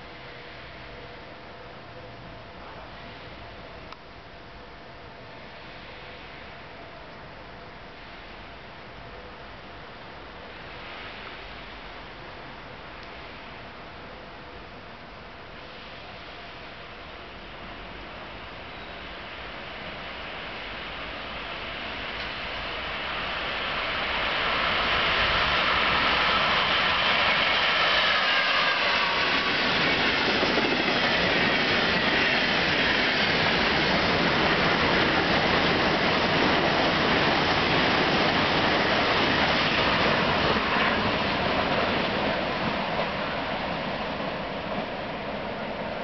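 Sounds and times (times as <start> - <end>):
high locomotive whine: 0.0 - 46.0
train wheels rushing on rail: 0.0 - 46.0.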